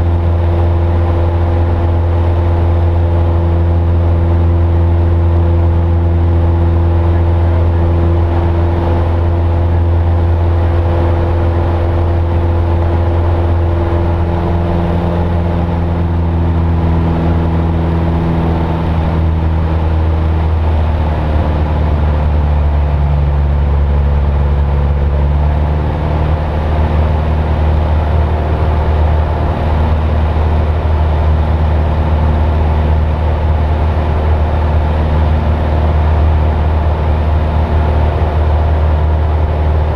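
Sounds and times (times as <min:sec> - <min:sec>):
airplane engine droning: 0:00.0 - 0:39.9.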